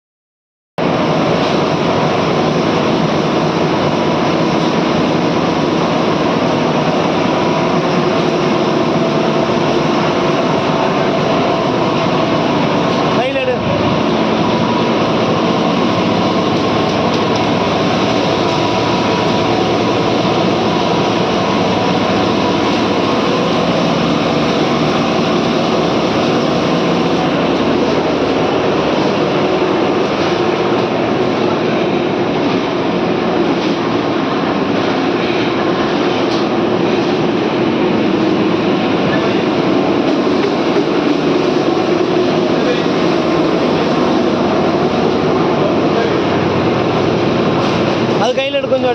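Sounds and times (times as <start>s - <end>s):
washing machine churning: 0.8s - 48.9s.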